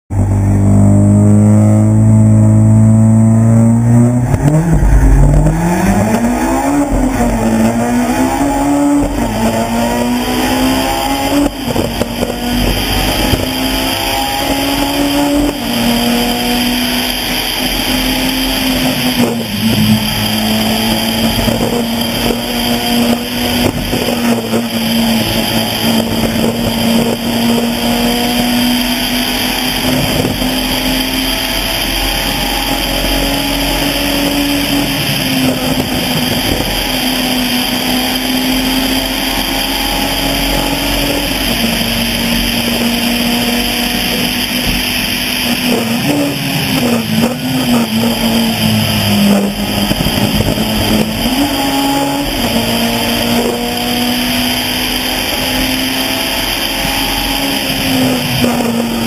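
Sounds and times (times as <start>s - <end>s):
rally car engine revving: 0.1s - 59.0s.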